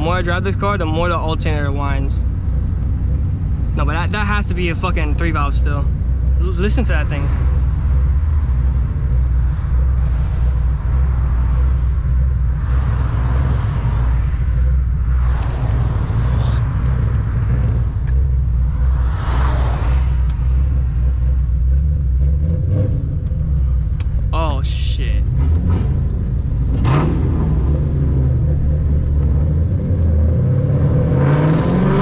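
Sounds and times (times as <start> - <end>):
car engine droning from cabin: 0.0 - 31.9
road noise: 0.0 - 32.0.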